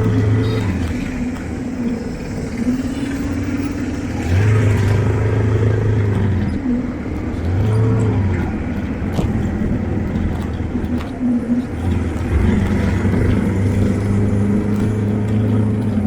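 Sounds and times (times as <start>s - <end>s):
street noise: 0.0s - 16.0s
vehicle engines changing speed: 0.0s - 16.0s.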